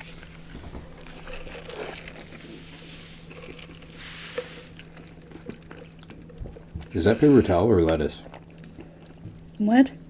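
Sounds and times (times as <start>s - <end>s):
food squishing: 0.0s - 9.5s
quiet chewing: 0.0s - 9.6s.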